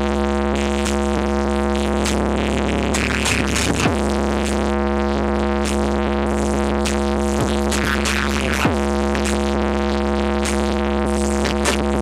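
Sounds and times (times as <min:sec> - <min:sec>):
loud electronic dance music: 0:00.0 - 0:12.0.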